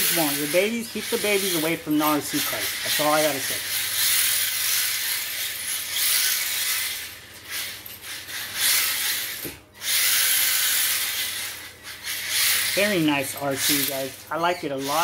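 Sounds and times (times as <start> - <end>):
toy car tyres and drivetrain rushing: 0.0 - 15.0.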